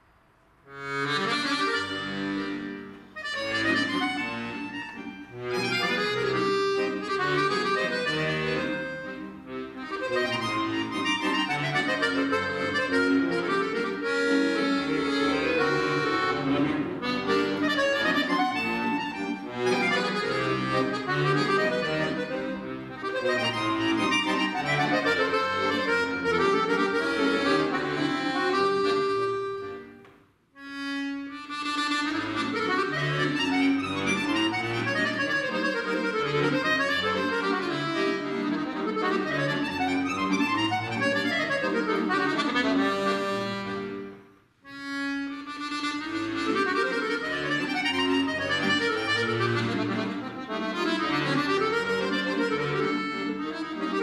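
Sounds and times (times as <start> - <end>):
solo accordion playing: 0.6 - 54.0.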